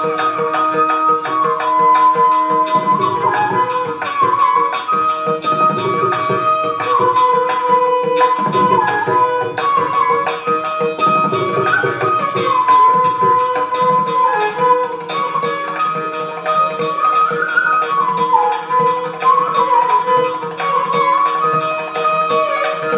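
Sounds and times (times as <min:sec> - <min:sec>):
flute melody: 0:00.0 - 0:22.9
tabla drumming: 0:00.0 - 0:22.9.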